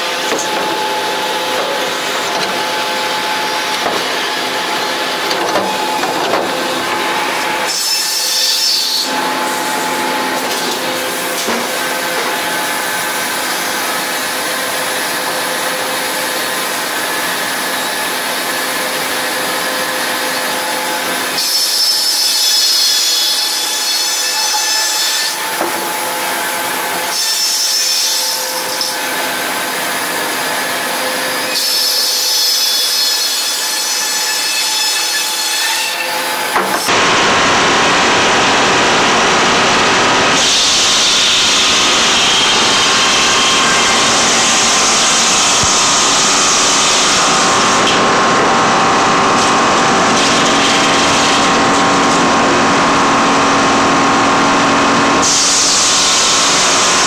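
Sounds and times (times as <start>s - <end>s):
circular saw whining: 0.0s - 57.0s.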